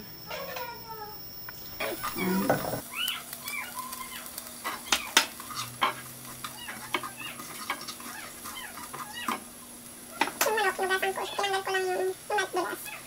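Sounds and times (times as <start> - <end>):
aromatics sizzling in hot oil: 0.0 - 13.0.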